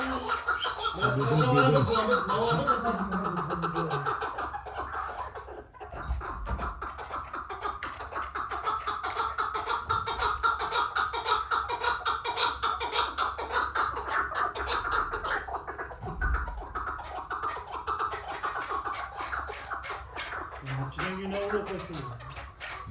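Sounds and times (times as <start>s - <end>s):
partridge clucking call: 0.0s - 22.9s.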